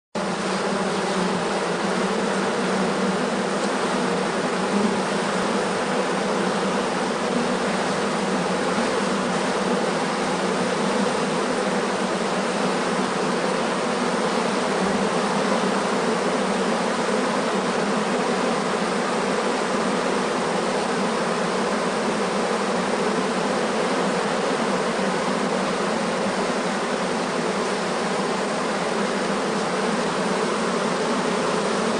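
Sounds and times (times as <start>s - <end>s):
bees buzzing in a hive: 0.2s - 31.9s.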